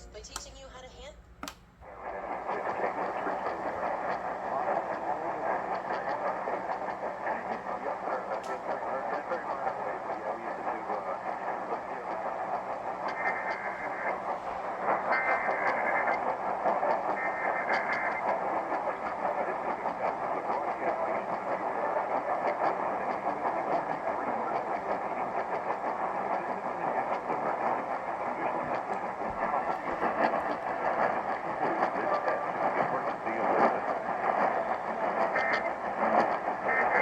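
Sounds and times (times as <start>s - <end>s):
radio static hiss: 1.8s - 37.0s.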